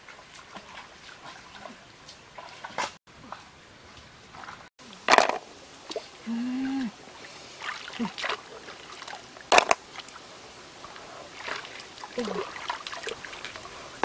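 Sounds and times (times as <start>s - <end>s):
stream water sloshing and splashing: 0.0s - 14.0s.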